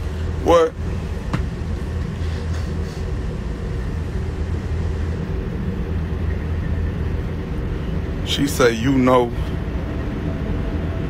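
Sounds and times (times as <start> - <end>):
bus interior rumble: 0.0 - 11.0.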